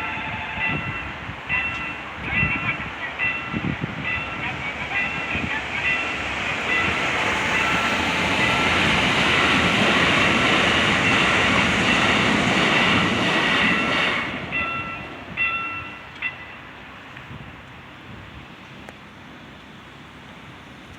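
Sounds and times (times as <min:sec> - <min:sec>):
level crossing warning bell: 0:00.0 - 0:16.8
train wheels rushing on rails: 0:00.0 - 0:20.7.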